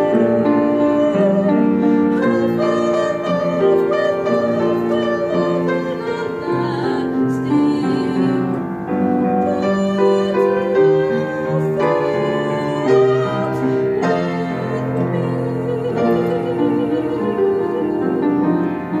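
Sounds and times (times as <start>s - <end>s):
piano accompaniment: 0.0s - 19.0s
woman singing with vibrato: 0.0s - 19.0s.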